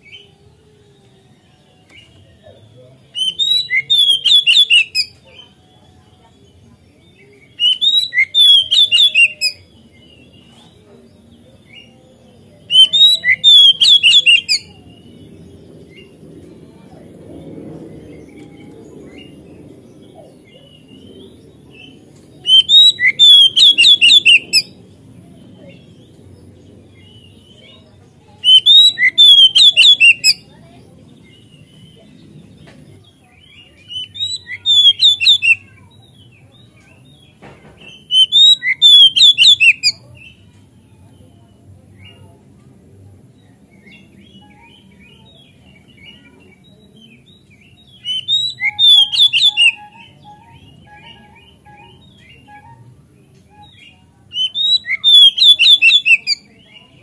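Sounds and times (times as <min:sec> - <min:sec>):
bird singing whistled notes: 0:00.0 - 0:15.3, 0:18.0 - 0:24.8, 0:25.4 - 0:32.2, 0:33.1 - 0:40.4, 0:43.8 - 0:57.0.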